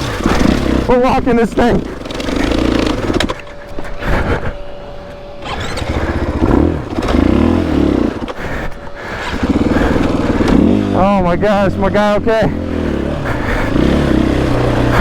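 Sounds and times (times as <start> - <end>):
dirt bike engine revving: 0.0 - 4.5, 5.1 - 15.0.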